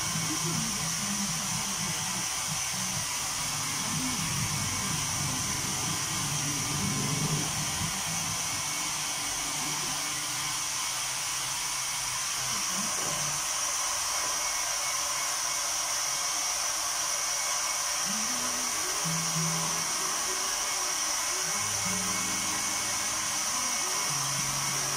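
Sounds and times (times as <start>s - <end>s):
hot-air dryer blowing: 0.0s - 24.9s.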